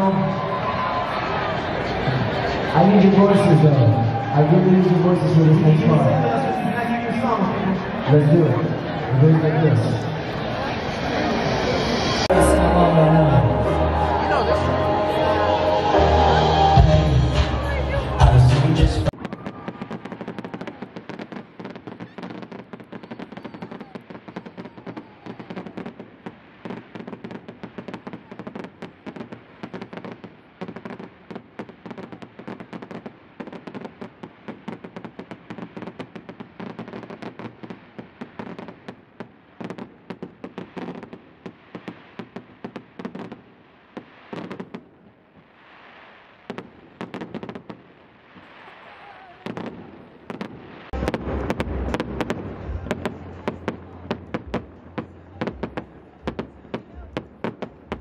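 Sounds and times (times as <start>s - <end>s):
fireworks bangs and crackles: 0.0s - 14.7s, 15.4s - 58.0s.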